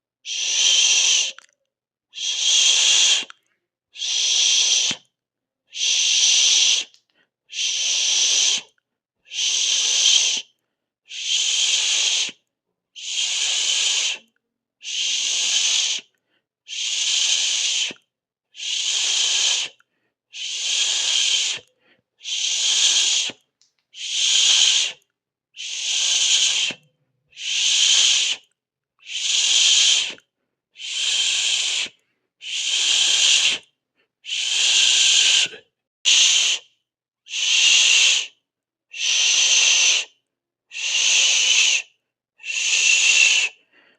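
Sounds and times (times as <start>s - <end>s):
person hissing through teeth: 0.3s - 1.5s, 2.2s - 3.4s, 4.0s - 5.1s, 5.7s - 8.7s, 9.3s - 10.5s, 11.1s - 12.4s, 13.0s - 16.1s, 16.7s - 36.7s, 37.3s - 43.7s.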